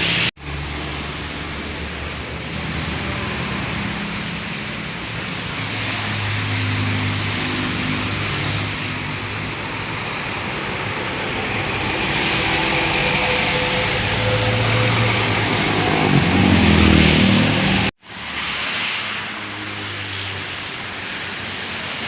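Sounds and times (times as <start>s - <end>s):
heavy vehicle engine hum: 0.0s - 18.0s
tyre hiss and spray on wet road: 0.0s - 22.0s.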